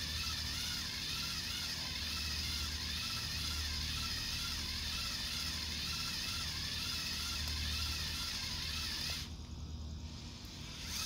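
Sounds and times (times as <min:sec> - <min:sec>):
drill boring into dirt: 0:00.0 - 0:09.3, 0:10.6 - 0:11.0.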